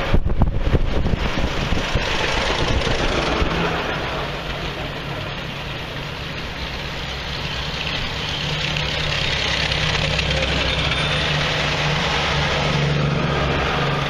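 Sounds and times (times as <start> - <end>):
tractor engines droning: 0.0 - 14.0.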